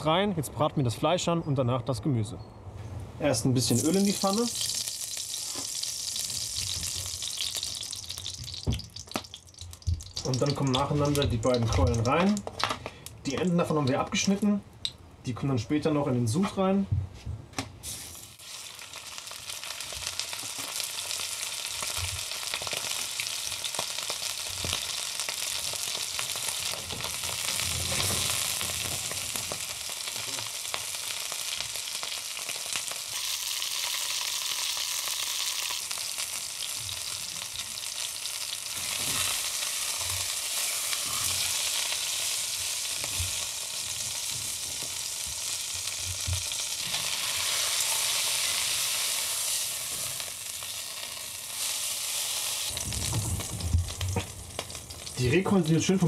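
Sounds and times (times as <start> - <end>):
meat sizzling in oil: 3.6 - 12.7, 17.8 - 55.5.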